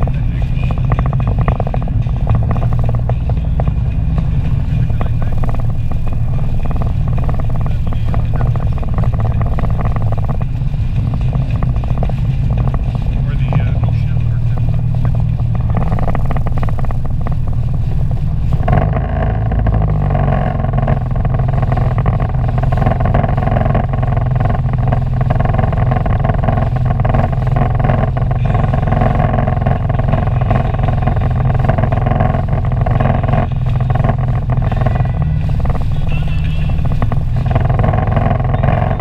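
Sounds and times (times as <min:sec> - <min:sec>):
personal watercraft engine running: 0:00.0 - 0:39.0.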